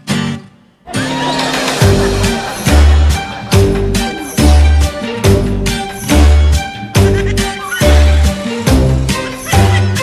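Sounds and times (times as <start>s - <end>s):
background music with bass: 0.9s - 10.0s.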